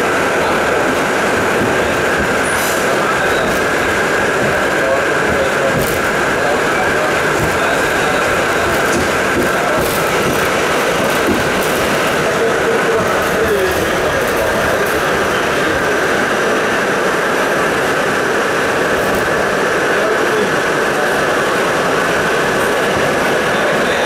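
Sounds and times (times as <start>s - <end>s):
subway wheels rumbling on rail: 0.0s - 24.0s.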